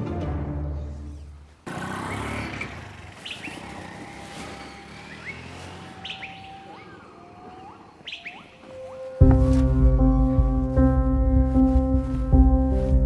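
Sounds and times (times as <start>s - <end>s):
birds chirping: 0.8s - 12.5s.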